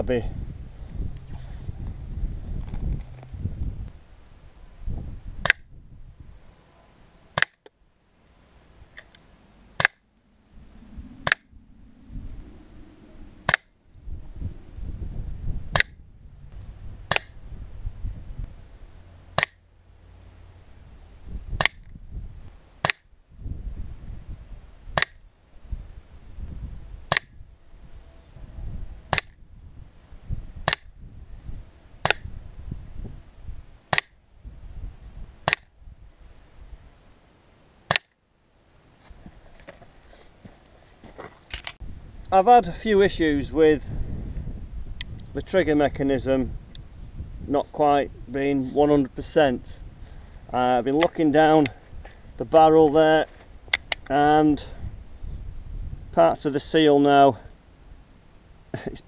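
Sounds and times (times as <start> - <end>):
wind rumble: 0.0 - 6.6, 8.4 - 37.2, 39.1 - 56.4.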